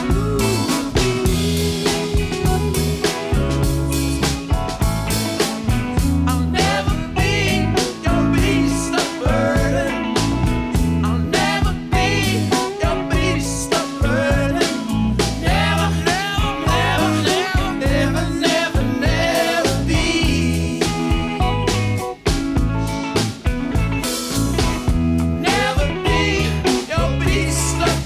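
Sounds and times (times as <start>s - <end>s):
song with guitar and singing: 0.0s - 28.0s.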